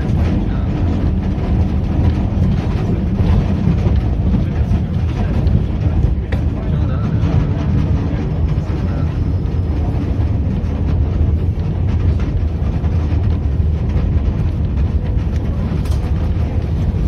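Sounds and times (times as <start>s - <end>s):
tram running gear rumbling: 0.0s - 17.0s.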